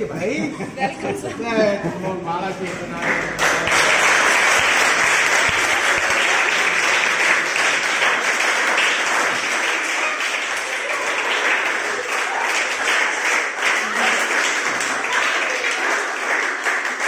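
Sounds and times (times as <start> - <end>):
crowd applauding: 2.9 - 17.0.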